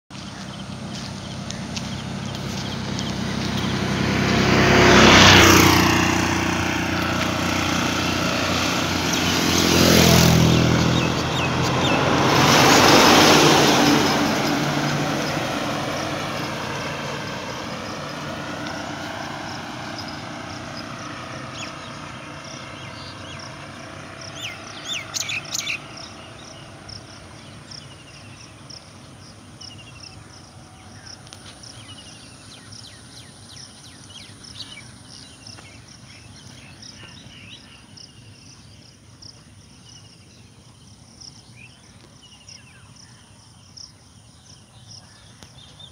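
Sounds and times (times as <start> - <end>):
birds chirping: 0.1 - 45.9
vehicles passing close by: 0.1 - 45.9.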